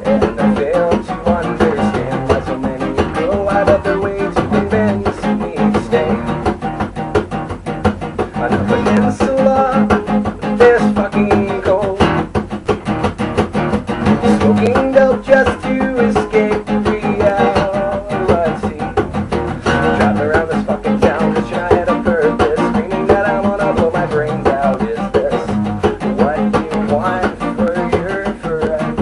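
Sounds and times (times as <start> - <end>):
guitar band music: 0.0 - 29.0.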